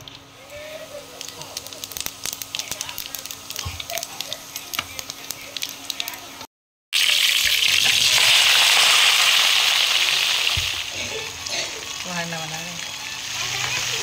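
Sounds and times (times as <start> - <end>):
hot oil crackling and popping: 0.0 - 14.0
potatoes sizzling in oil: 0.0 - 14.0.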